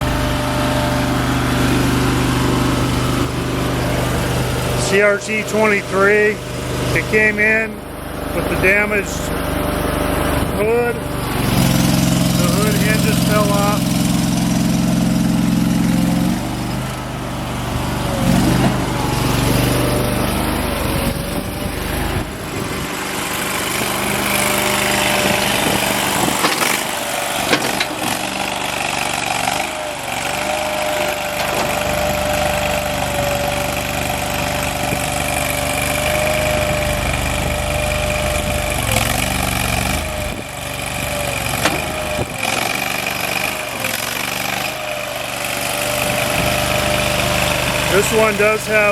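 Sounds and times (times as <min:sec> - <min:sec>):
skid steer engine running: 0:00.0 - 0:48.9.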